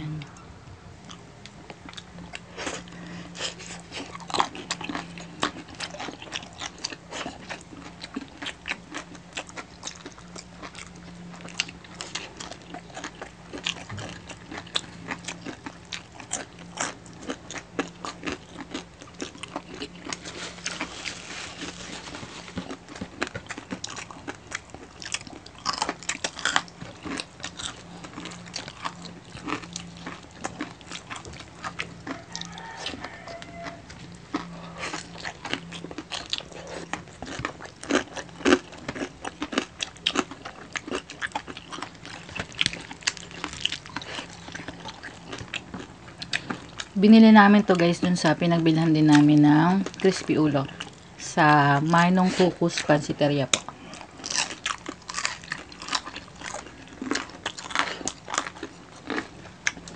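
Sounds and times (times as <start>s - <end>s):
people chewing crispy food: 1.0s - 59.9s.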